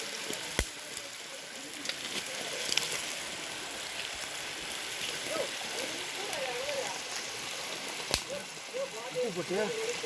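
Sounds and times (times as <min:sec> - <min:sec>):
food sizzling in a pot: 0:00.0 - 0:10.0
light popping: 0:00.2 - 0:08.4.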